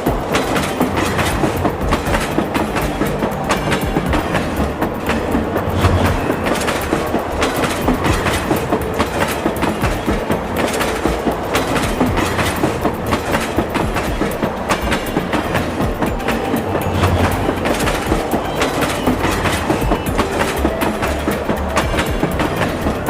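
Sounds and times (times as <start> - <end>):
toy train wheels rattling: 0.0 - 23.0.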